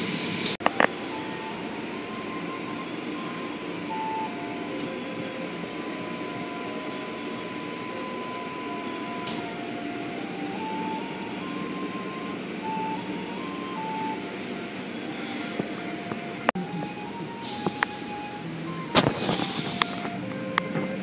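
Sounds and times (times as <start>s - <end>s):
car wash spraying water and brushes: 0.0s - 21.0s.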